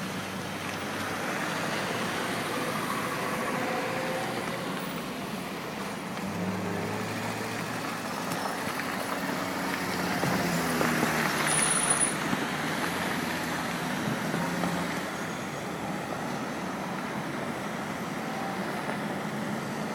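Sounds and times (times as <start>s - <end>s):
motor vehicles passing: 0.0s - 19.9s.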